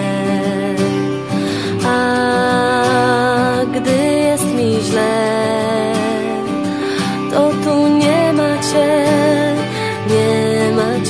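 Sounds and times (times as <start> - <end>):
instrumental pop ballad with guitar: 0.0 - 11.0.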